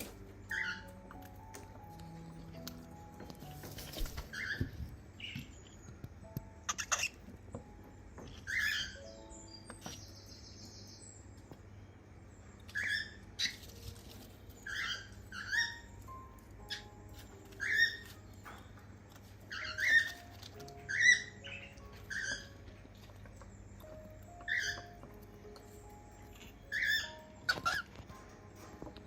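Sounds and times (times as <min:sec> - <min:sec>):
cockatiels chirping: 0:00.0 - 0:01.8, 0:02.9 - 0:11.2, 0:12.5 - 0:29.0.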